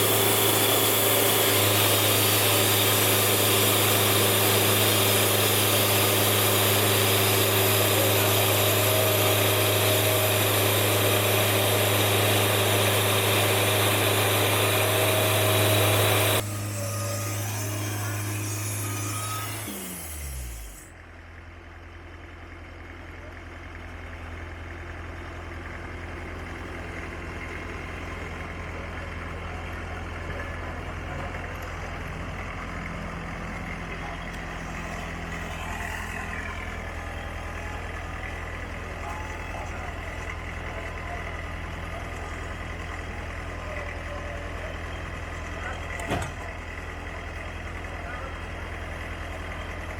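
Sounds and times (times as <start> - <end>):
sawmill engine humming: 0.0 - 49.9.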